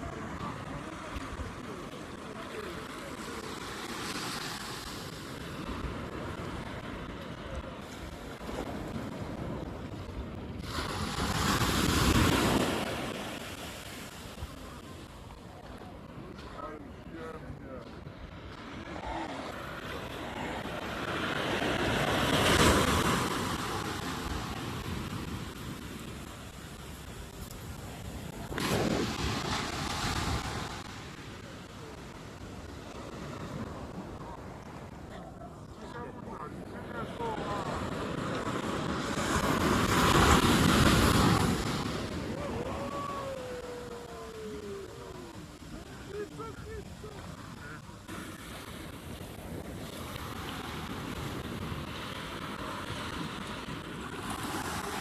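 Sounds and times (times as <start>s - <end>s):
sea wave breaking on sand: 0.0s - 15.8s, 18.6s - 34.7s, 36.7s - 47.5s, 48.1s - 55.0s.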